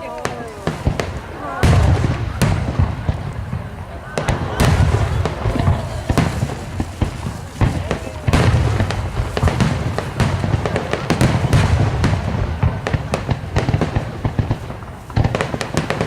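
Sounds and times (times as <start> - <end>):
firework shells bursting: 0.2 - 16.0.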